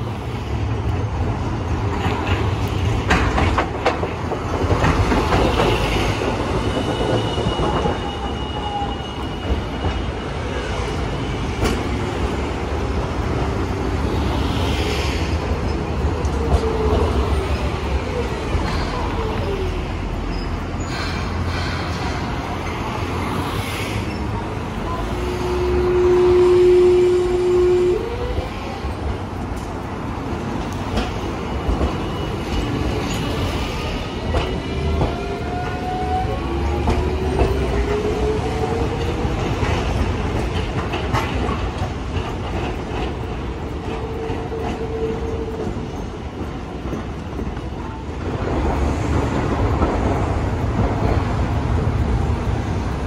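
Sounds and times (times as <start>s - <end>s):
street traffic: 0.0s - 53.0s
tram rolling past: 0.0s - 53.0s.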